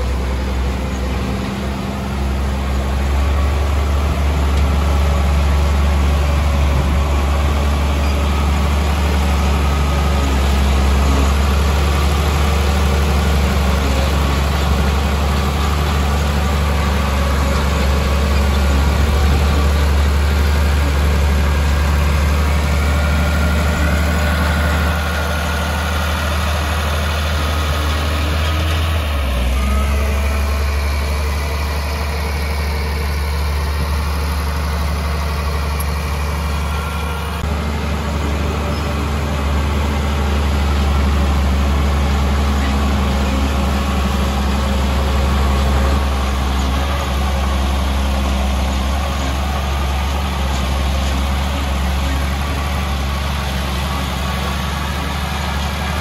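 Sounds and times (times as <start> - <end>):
heavy diesel engine humming: 0.0 - 56.0.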